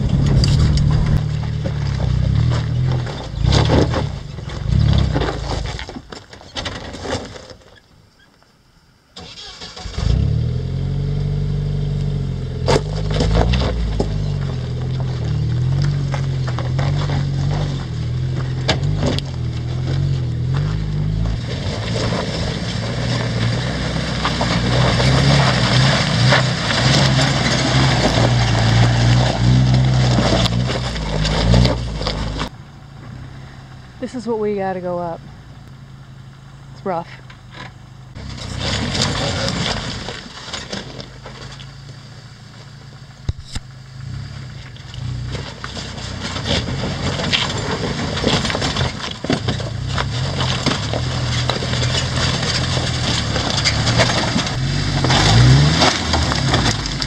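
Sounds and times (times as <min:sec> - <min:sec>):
off-road vehicle engine running: 0:00.0 - 0:07.4, 0:09.2 - 0:57.0
knocks and rattles over rocks: 0:00.0 - 0:07.9, 0:12.6 - 0:32.5, 0:37.3 - 0:43.5, 0:44.6 - 0:57.0.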